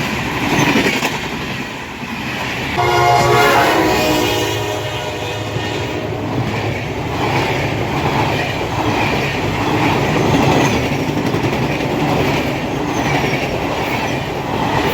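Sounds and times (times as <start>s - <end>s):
train wheels rumbling on rails: 0.0s - 2.8s, 3.5s - 14.9s.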